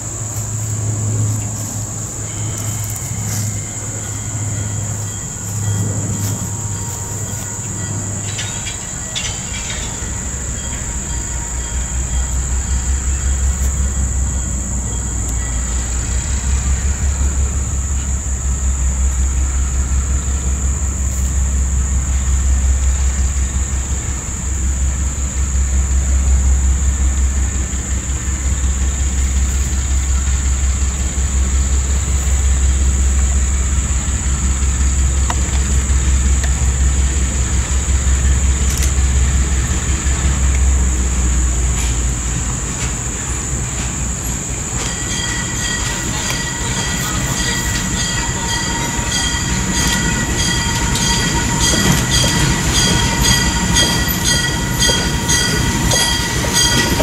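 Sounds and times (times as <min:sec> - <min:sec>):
locomotive engine rumbling: 0:00.0 - 0:57.0.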